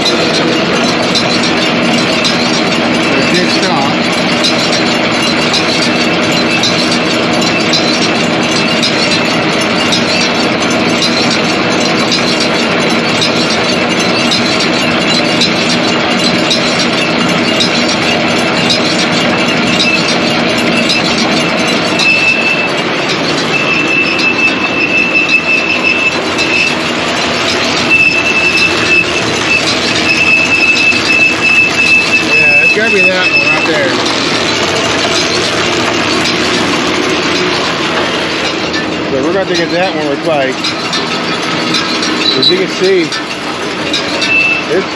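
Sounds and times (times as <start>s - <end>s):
baler mechanical hum: 0.0s - 44.9s
high steady squeal: 0.0s - 44.9s.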